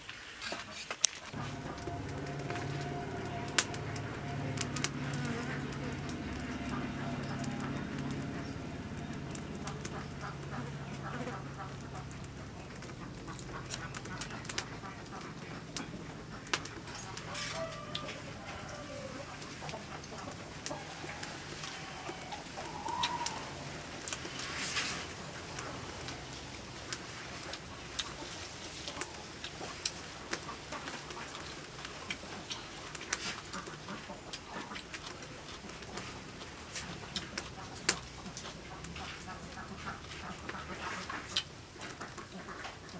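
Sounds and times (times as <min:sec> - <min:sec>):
faint steady background noise: 0:00.0 - 0:42.9
poultry calling: 0:01.3 - 0:31.7, 0:32.3 - 0:42.9.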